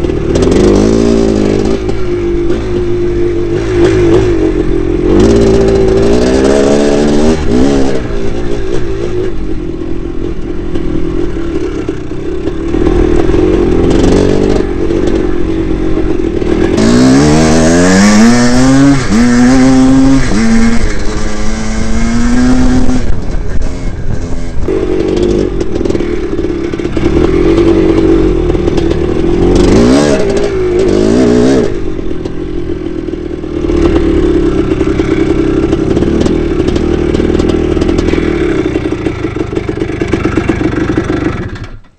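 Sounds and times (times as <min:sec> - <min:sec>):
two-stroke motorcycle engine: 0:00.0 - 0:41.9.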